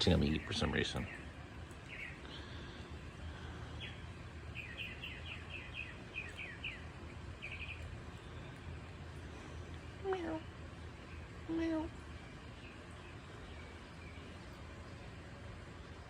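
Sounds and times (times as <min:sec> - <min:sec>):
bird chirping: 0:00.0 - 0:16.0
low background noise: 0:00.0 - 0:16.0.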